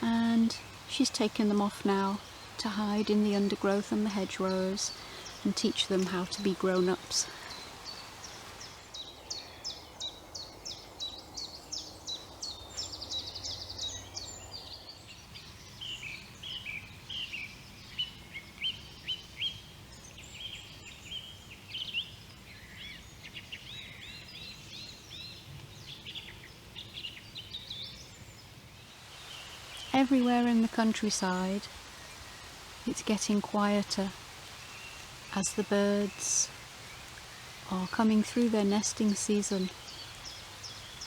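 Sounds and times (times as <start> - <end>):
songbirds singing and chirping: 0.0 - 41.0.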